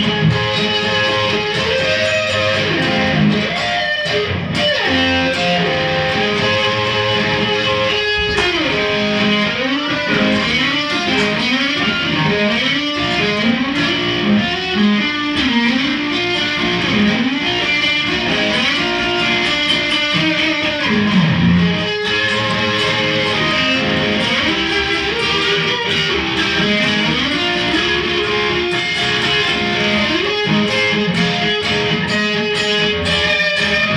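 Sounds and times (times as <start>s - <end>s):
solo electric guitar with bends: 0.0s - 33.9s.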